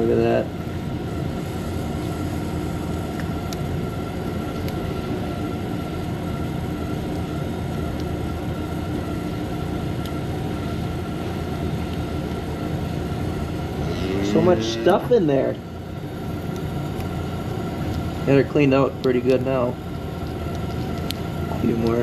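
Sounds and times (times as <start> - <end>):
machinery humming with whine: 0.0 - 22.0.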